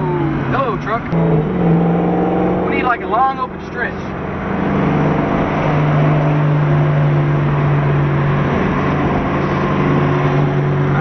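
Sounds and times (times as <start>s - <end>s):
car engine droning at cruise: 0.0s - 11.0s.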